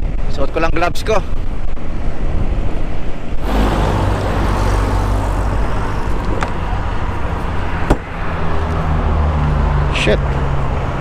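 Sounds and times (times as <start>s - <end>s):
traffic noise: 1.8s - 11.0s.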